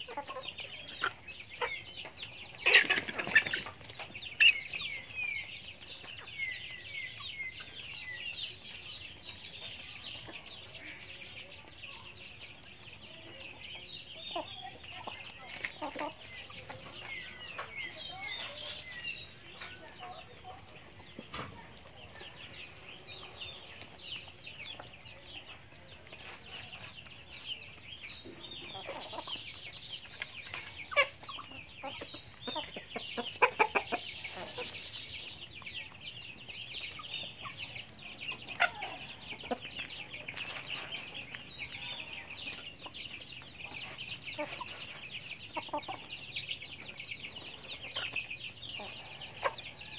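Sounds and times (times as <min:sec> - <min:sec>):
chickens clucking softly: 0:00.0 - 0:49.9.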